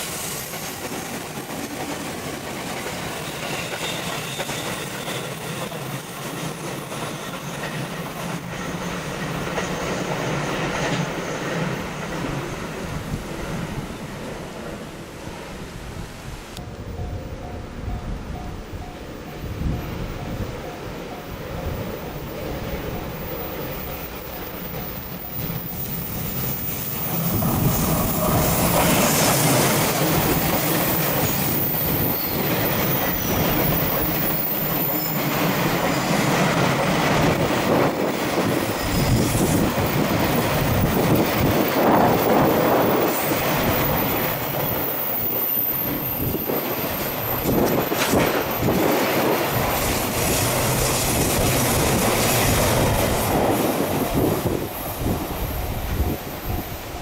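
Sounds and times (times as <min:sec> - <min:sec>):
train clatter: 0:00.0 - 0:14.8, 0:16.8 - 0:57.0
train wheels on rails: 0:00.0 - 0:57.0.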